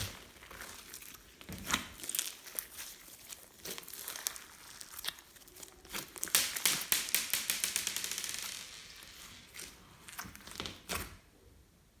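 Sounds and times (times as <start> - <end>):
slime squishing with sticky pops: 0.0 - 7.8, 9.1 - 11.2.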